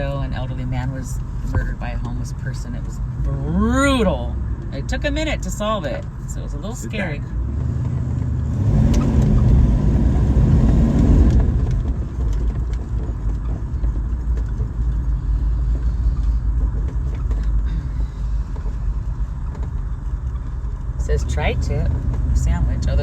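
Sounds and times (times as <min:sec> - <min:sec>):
car engine rumble from inside: 0:00.0 - 0:23.0.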